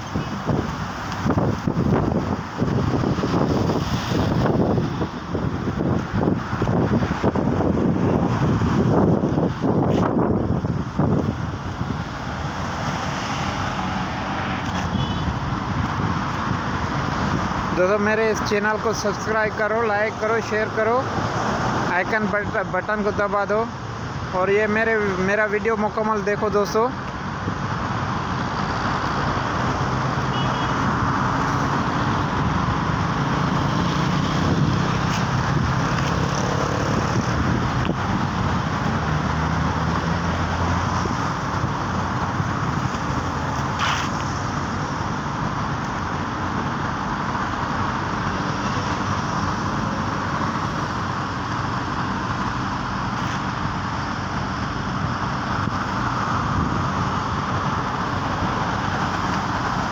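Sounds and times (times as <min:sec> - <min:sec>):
road traffic from passing cars: 0:00.0 - 0:59.9.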